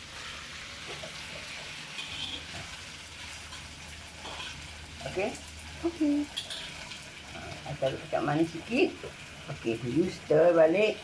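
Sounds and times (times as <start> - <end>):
metal spatula stir-frying: 0.0 - 11.0
noodles sizzling in a wok: 0.0 - 11.0.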